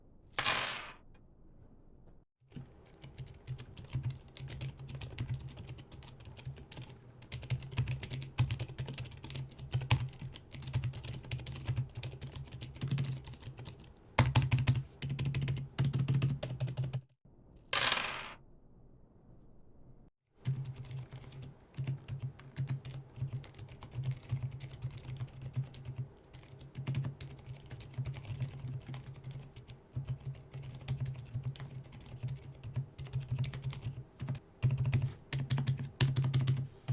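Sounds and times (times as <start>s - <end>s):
mechanical keyboard typing: 3.0s - 17.0s, 20.5s - 36.6s.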